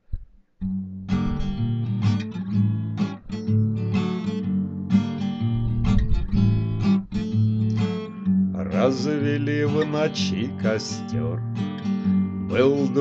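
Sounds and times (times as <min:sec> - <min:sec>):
acoustic guitar strumming: 0:00.6 - 0:13.0.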